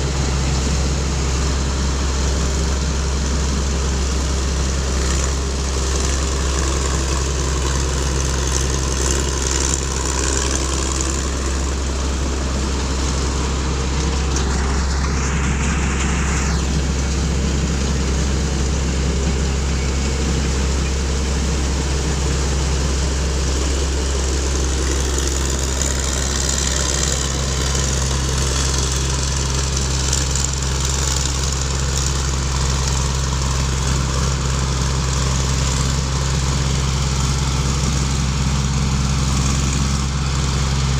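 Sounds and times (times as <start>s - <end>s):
combine harvester engine humming: 0.0s - 40.9s.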